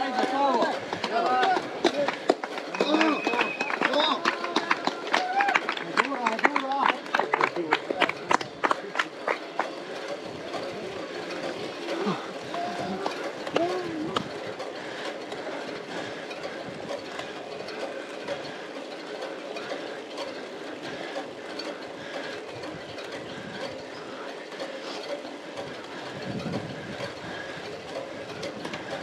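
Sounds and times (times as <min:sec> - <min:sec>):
bicycle chain whirring: 0:00.0 - 0:29.0
tyres on wet asphalt: 0:00.0 - 0:29.0.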